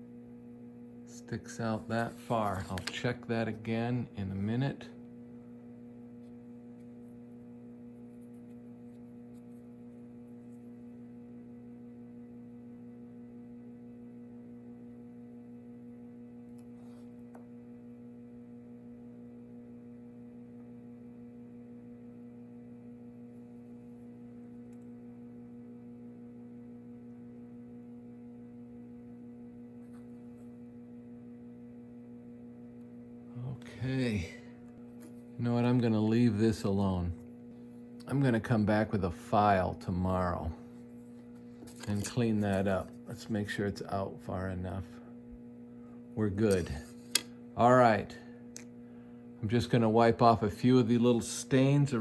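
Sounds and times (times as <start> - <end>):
electrical mains hum: 0.0 - 52.0.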